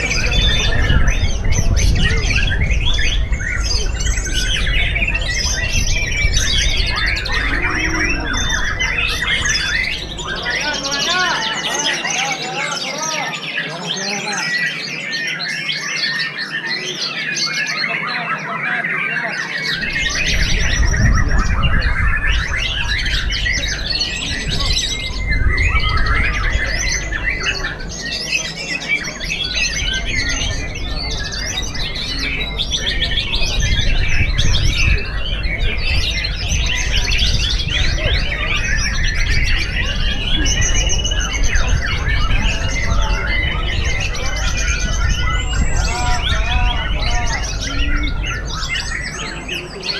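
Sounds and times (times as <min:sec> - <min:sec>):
songbird singing trills and whistles: 0:00.0 - 0:49.9.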